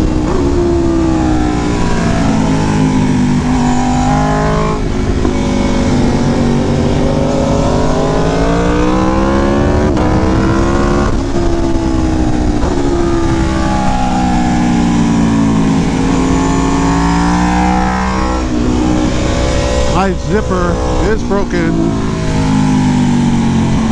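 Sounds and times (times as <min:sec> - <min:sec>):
motorcycle engine revving: 0:00.0 - 0:23.9
wind rush on microphone: 0:00.0 - 0:23.9.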